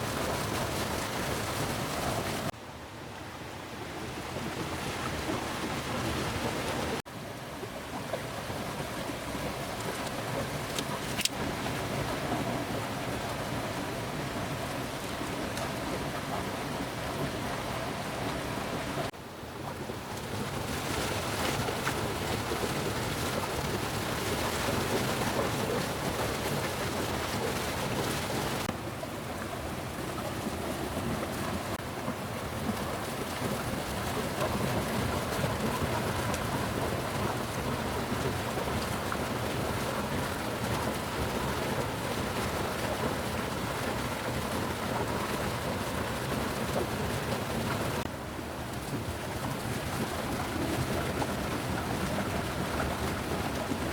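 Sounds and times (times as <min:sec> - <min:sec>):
steady rain falling: 0:07.6 - 0:53.9.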